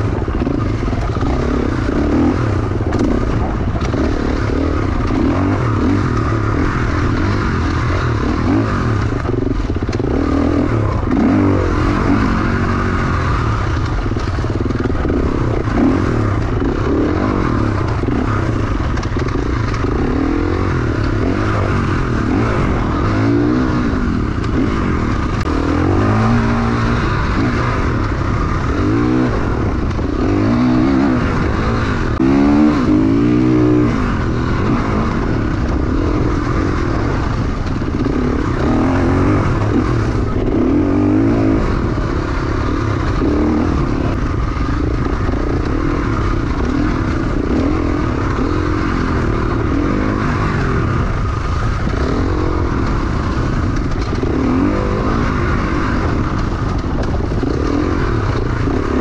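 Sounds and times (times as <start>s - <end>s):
motorcycle engine revving: 0.0s - 59.0s
steady rushing noise: 0.0s - 59.0s.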